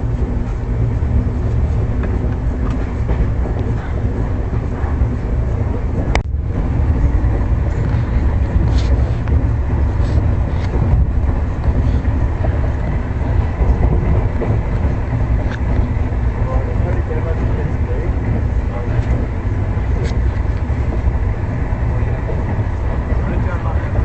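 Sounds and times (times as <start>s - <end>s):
train coach rumbling on track: 0.0s - 24.0s.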